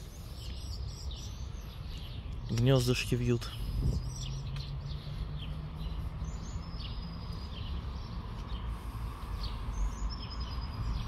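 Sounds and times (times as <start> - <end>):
small songbirds chirping: 0.0 - 11.0.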